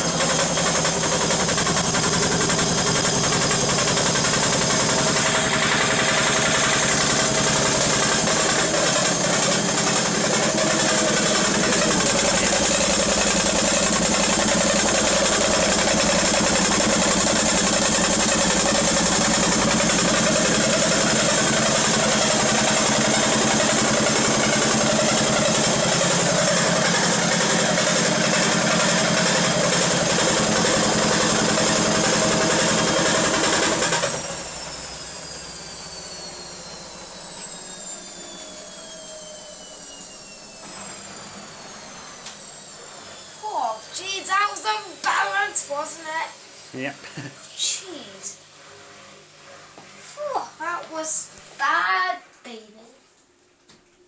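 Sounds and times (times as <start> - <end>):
drum spinning down whine: 0.0 - 45.9
washing machine spinning harshly: 0.0 - 52.0.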